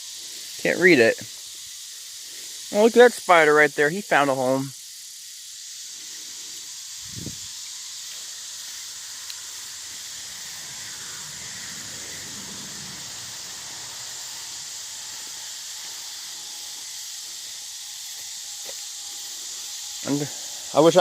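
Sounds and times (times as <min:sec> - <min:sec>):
high-pitched outdoor hiss: 0:00.0 - 0:21.0.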